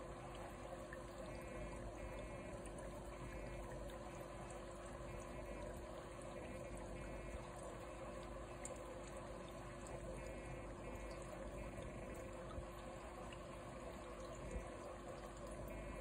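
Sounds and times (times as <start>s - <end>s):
aquarium filter trickling water: 0.0s - 16.0s
faint hum: 0.0s - 16.0s.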